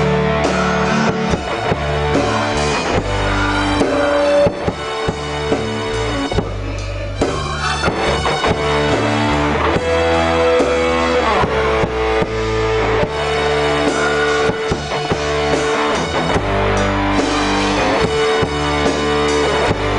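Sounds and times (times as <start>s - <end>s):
bass line: 0.0s - 19.9s
drum kit beat: 0.0s - 19.9s
held guitar or keyboard notes: 0.0s - 19.9s.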